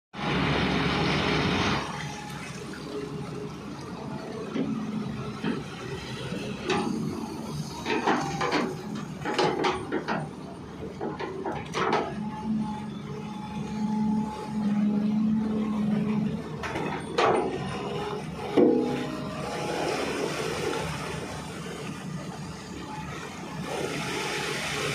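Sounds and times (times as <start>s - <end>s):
engine running: 0.2s - 24.9s.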